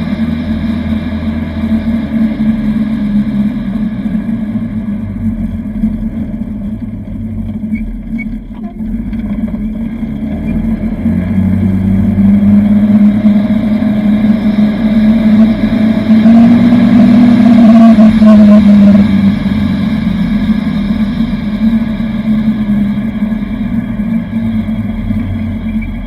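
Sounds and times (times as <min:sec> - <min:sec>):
utility vehicle engine driving: 0:00.0 - 0:26.0.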